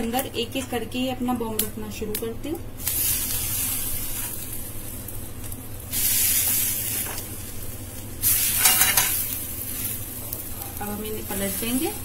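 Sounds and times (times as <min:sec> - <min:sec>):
oil sizzling in frying pan: 0:01.5 - 0:12.0.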